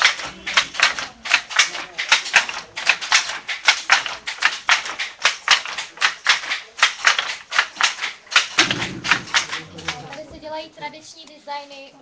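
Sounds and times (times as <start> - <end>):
wooden looms clacking: 0.0 - 10.3.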